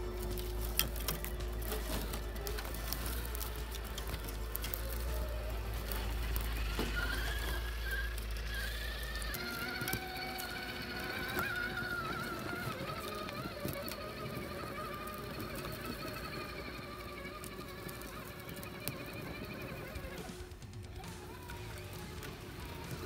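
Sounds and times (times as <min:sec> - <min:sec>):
toy car electric motor whining: 0:00.0 - 0:23.0.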